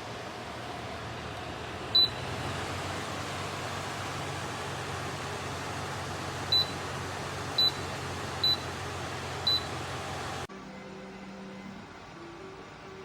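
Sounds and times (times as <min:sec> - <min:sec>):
fan blowing: 0:00.0 - 0:13.0.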